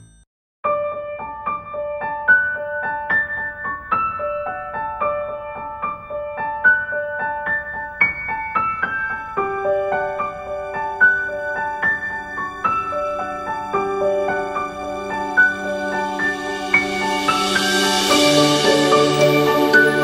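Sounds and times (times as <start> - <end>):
piano-like keyboard melody: 0.0 - 20.0.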